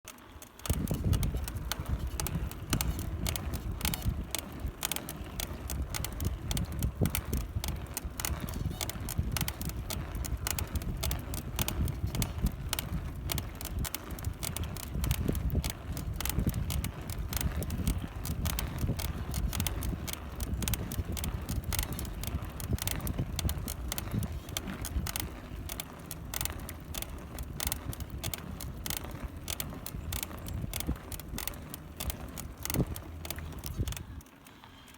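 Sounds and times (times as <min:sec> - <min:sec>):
bicycle creaking clicks: 0:00.1 - 0:34.9.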